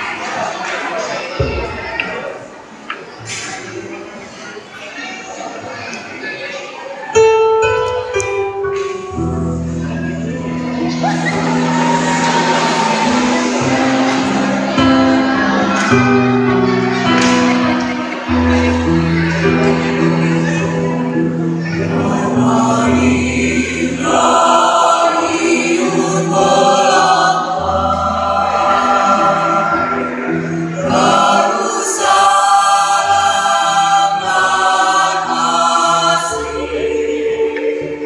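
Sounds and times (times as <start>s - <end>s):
choir singing in harmony: 7.1s - 38.0s.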